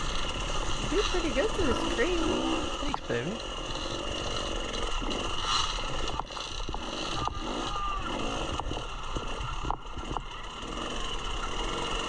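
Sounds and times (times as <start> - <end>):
dirt bike engine revving: 0.0 - 12.0
wheels knocking on rocks: 0.0 - 12.0.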